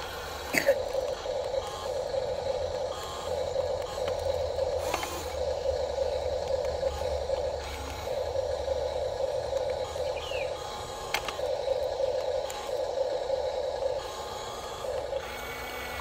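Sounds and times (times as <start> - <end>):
electric motors running: 0.0 - 16.0.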